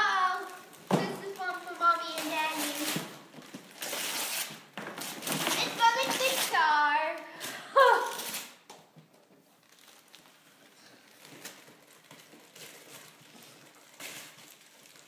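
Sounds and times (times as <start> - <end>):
wrapping paper rustling: 0.0 - 7.0, 7.8 - 15.0.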